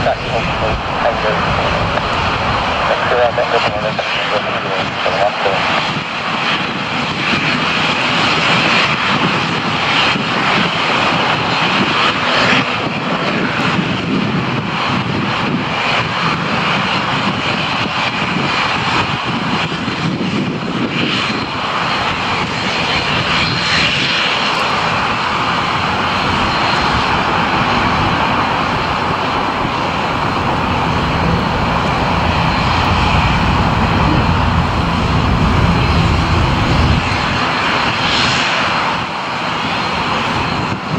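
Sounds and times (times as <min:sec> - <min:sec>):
aircraft engines running: 0:00.0 - 0:12.4, 0:14.6 - 0:40.9.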